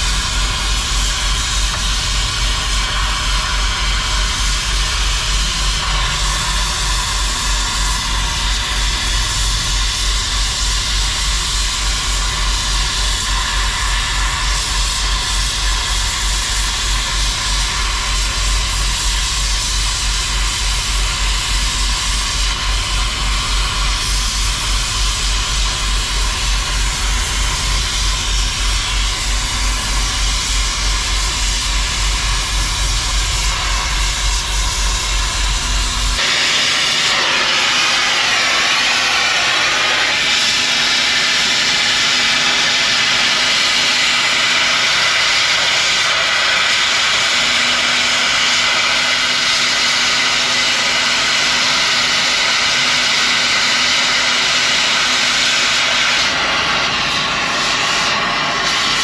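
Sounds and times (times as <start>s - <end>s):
cutting torch hissing: 0.0s - 59.0s.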